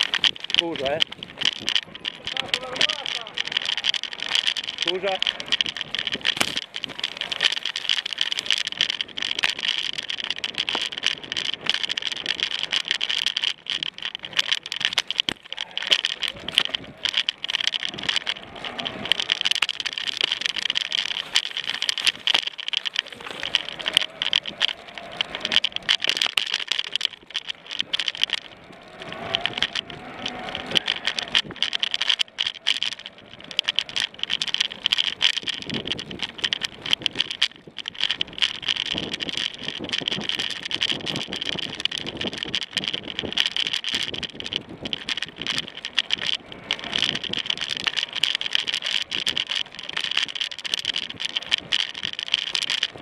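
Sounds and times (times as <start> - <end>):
mountain bike rattling over dirt: 0.0 - 53.0.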